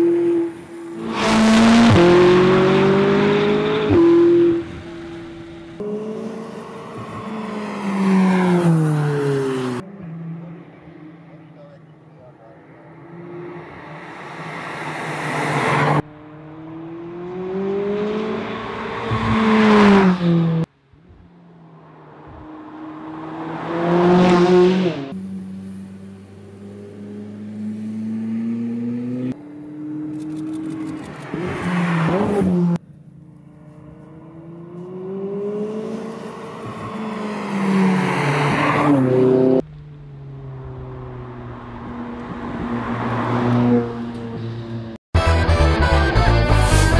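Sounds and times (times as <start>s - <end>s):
sports car passing by: 0.0s - 45.0s.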